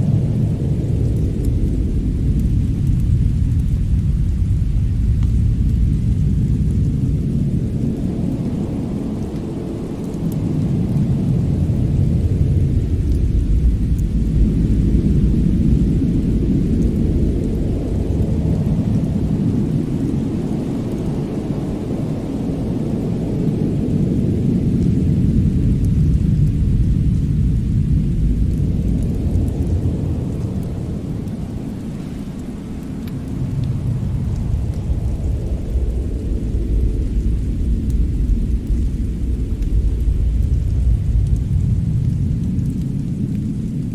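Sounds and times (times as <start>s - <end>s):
deep storm rumble: 0.0s - 43.9s
faint fire crackles: 0.0s - 43.9s.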